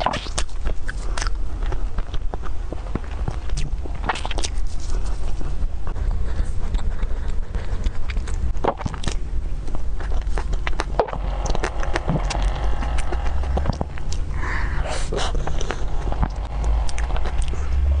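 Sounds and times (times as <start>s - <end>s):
mouth clicks and smacking: 0.0s - 17.9s
steady low hum: 0.0s - 18.0s.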